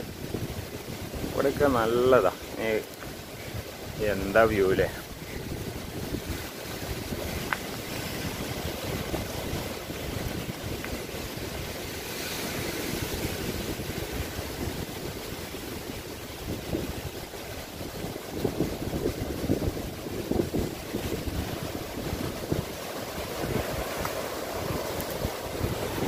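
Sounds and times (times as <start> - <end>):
surf breaking on rocks: 0.0 - 26.0
wind buffeting microphone: 0.0 - 26.0.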